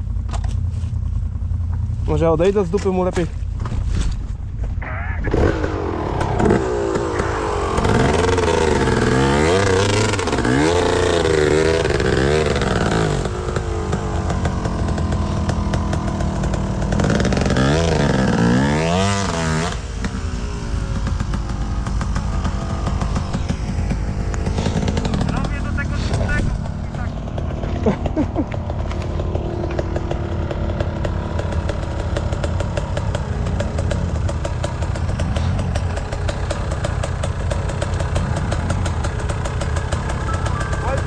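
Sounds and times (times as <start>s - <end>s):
quad engine revving: 5.1s - 41.0s.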